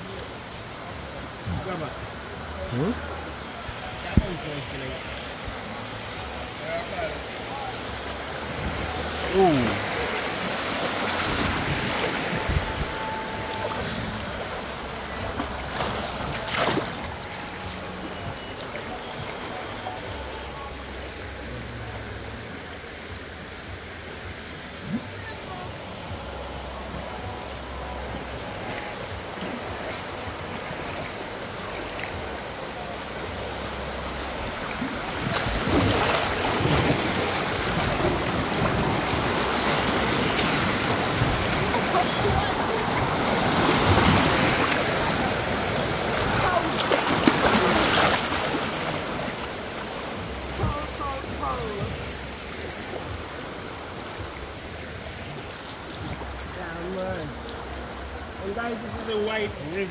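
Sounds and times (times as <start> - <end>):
river water rushing and splashing: 0.0 - 59.9.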